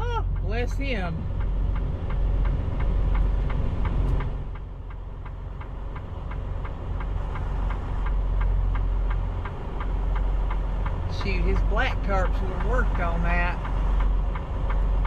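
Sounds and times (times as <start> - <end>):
diesel truck engine running: 0.0 - 15.0
light regular ticking: 0.0 - 15.0.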